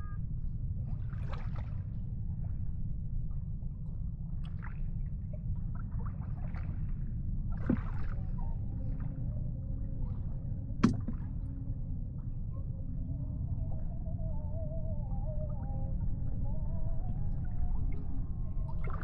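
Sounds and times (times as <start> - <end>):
water gurgling and sloshing: 0.0 - 19.0.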